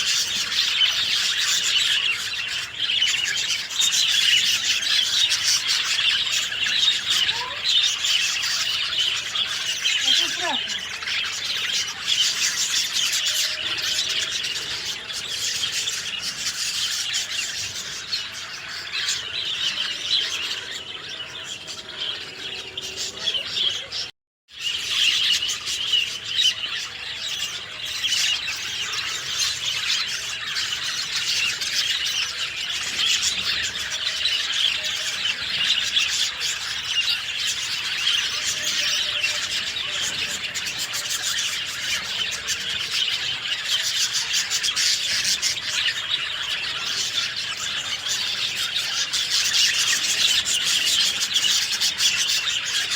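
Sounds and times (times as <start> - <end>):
small birds chirping and twittering: 0.0 - 52.9.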